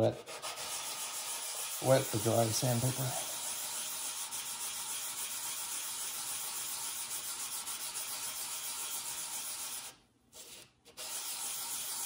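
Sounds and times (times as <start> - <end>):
metal wet sanding hiss: 0.4 - 9.9, 11.0 - 12.0.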